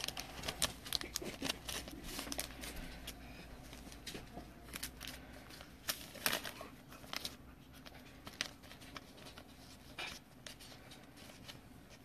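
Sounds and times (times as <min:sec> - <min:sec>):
plastic sleeve crinkling: 0:00.0 - 0:12.0.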